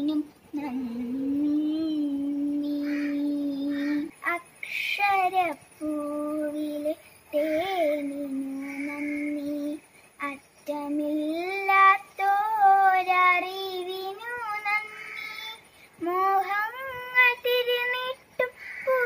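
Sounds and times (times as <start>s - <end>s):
girl singing: 0.0s - 19.0s.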